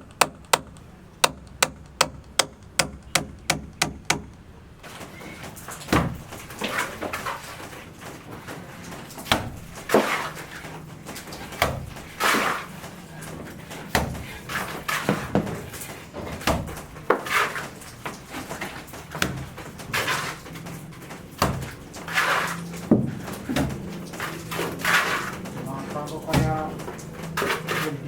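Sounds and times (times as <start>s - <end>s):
construction knocks and bangs: 0.0s - 28.0s.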